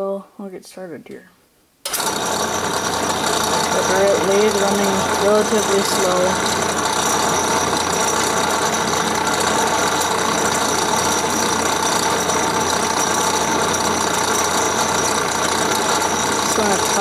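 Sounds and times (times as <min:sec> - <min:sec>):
metal lathe whirring: 0:01.9 - 0:17.0.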